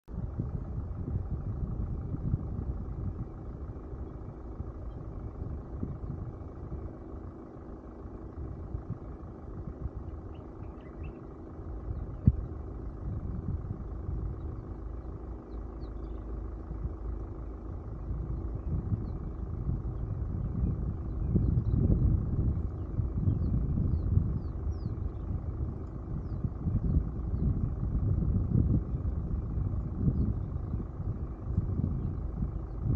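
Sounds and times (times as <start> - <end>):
vehicle engine rumbling: 0.0 - 32.9.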